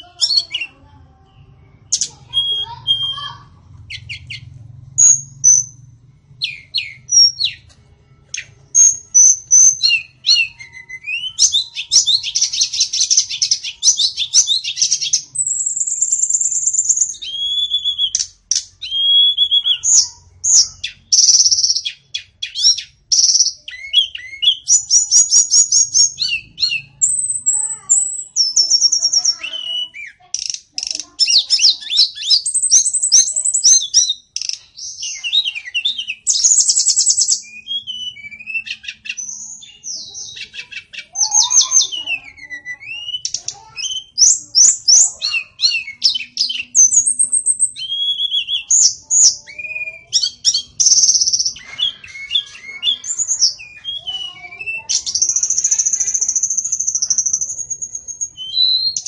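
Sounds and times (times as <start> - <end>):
bird singing whistles and trills: 1.8 - 5.8, 6.4 - 7.7, 8.3 - 59.0.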